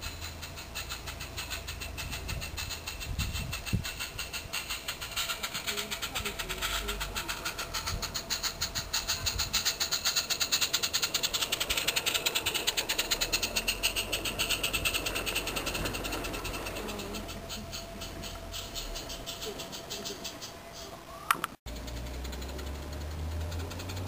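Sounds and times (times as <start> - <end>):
steam locomotive chuffing: 0.0 - 20.8, 21.7 - 24.0.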